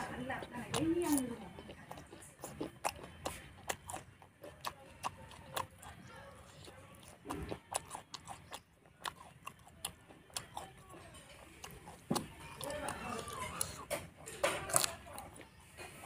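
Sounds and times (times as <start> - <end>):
chewing and lip smacking: 0.0 - 16.0.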